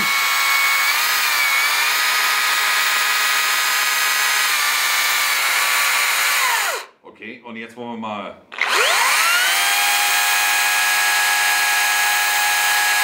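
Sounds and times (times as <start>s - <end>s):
cordless chainsaw whining: 0.0s - 6.9s, 8.5s - 13.0s.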